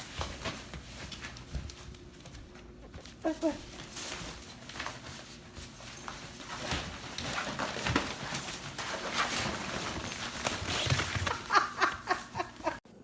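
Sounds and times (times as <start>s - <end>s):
dog clicking and scuffling: 0.0s - 12.8s.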